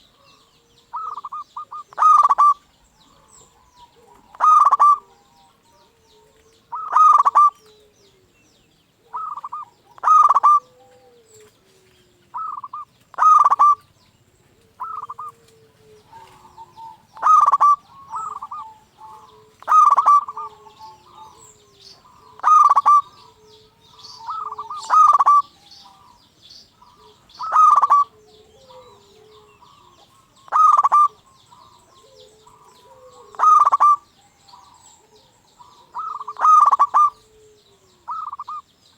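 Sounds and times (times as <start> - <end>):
dove cooing: 0.0 - 38.7
small birds chirping: 0.0 - 38.9.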